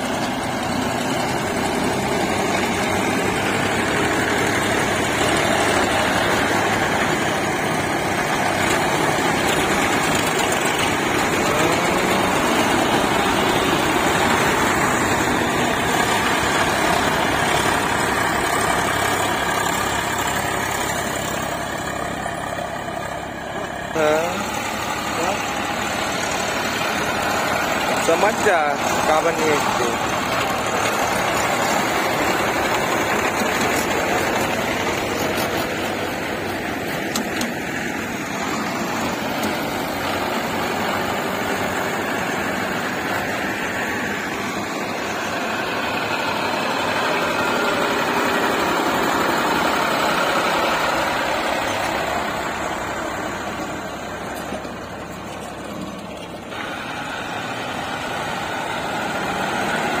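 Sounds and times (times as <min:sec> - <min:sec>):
diesel tractor engine running: 0:00.0 - 1:00.0.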